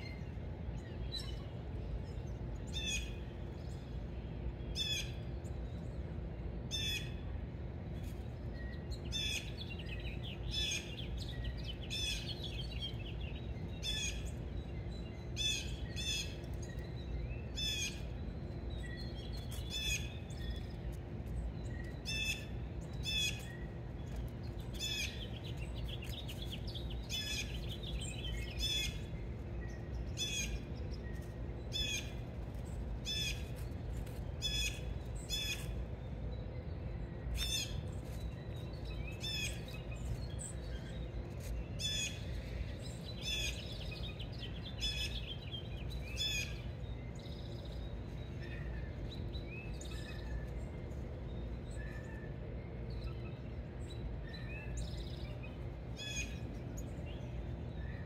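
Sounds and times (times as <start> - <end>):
birds chirping: 0.0 - 58.0
faint hum: 0.0 - 58.0
low background rumble: 0.0 - 58.0.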